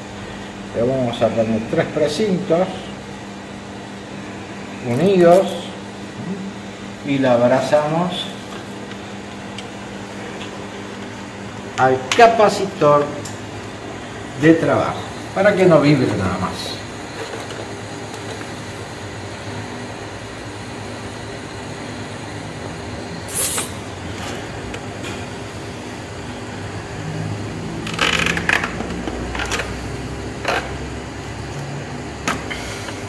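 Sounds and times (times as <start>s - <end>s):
steady background hum: 0.0s - 33.0s.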